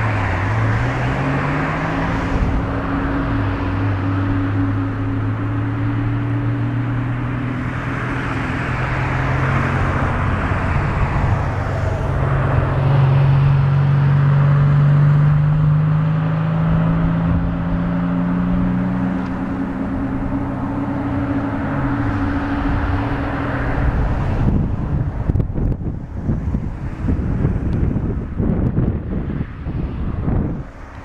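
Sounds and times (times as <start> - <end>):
wind on microphone: 0.0 - 15.8, 16.6 - 31.0.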